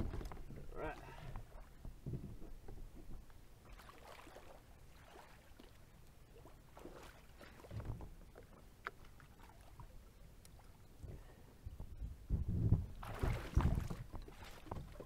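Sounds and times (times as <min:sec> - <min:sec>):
water splashing against kayak hull: 0:00.0 - 0:11.2, 0:12.6 - 0:15.0.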